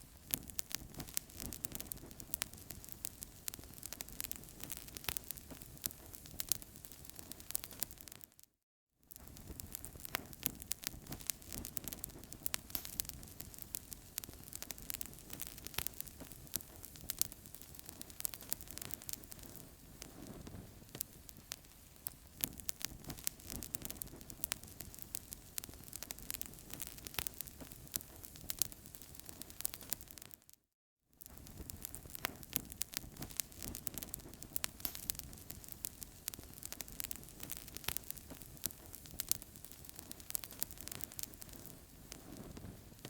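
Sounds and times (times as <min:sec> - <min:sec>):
wood fire crackling and popping: 0:00.0 - 0:08.4, 0:09.1 - 0:30.6, 0:31.2 - 0:43.0.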